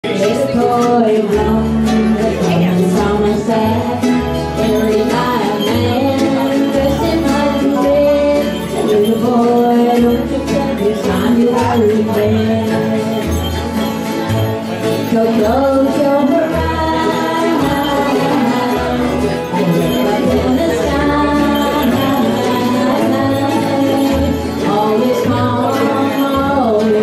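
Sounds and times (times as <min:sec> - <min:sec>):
bluegrass band playing: 0:00.0 - 0:27.0
person singing lead vocal: 0:00.0 - 0:27.0
walking bass line: 0:00.0 - 0:27.0.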